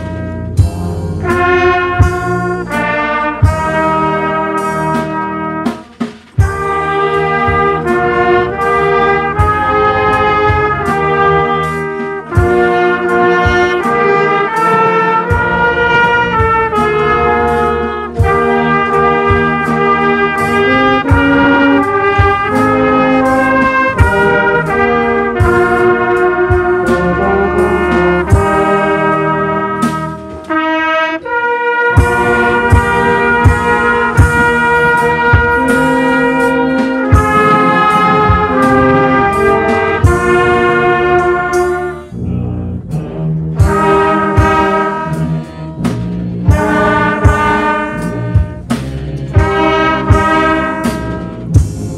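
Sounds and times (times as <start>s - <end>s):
brass band playing: 0.0s - 51.9s.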